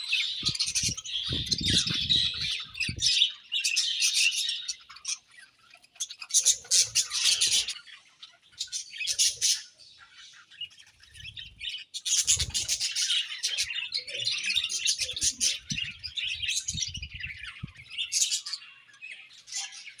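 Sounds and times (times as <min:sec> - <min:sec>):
budgerigars chirping and warbling: 0:00.0 - 0:20.0.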